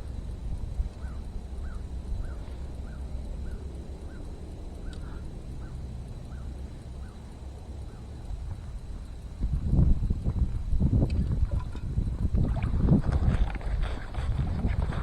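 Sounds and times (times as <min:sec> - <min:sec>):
wind rumbling on microphone: 0:00.0 - 0:06.4, 0:07.9 - 0:15.0.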